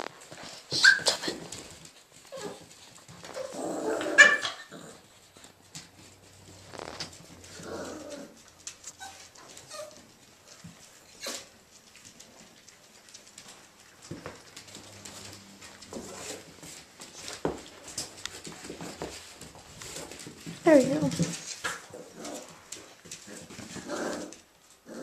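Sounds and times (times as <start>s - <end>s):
puppies playing: 0.0s - 25.0s.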